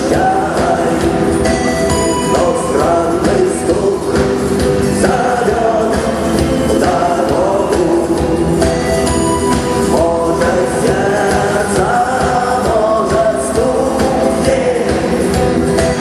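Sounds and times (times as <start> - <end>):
person singing: 0.0 - 16.0
rock band playing: 0.0 - 16.0
steady drum beat: 0.0 - 16.0.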